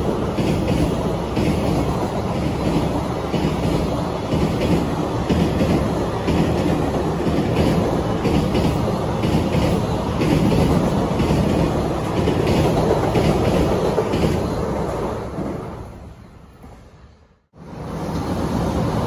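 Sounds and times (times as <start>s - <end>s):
wheels clacking over rail joints: 0.0s - 15.9s
freight train rumbling past: 0.0s - 19.0s.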